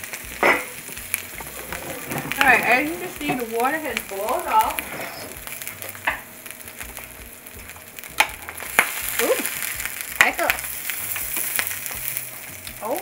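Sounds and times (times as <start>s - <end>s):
sausages sizzling in a pan: 0.0s - 13.0s.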